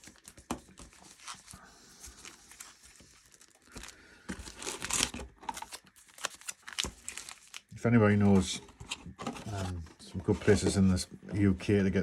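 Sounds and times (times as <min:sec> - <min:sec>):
plastic wrappers crinkling: 0:00.0 - 0:10.7.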